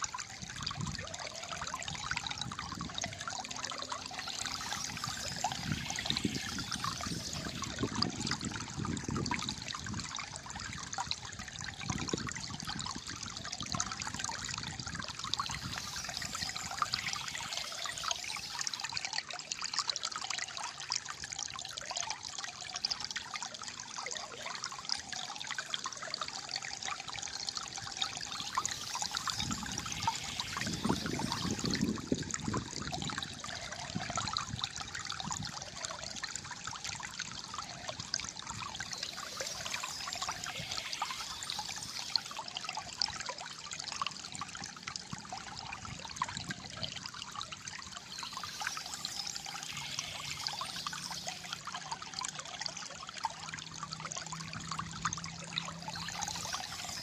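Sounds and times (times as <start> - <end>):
stream gurgling and trickling: 0.0 - 57.0.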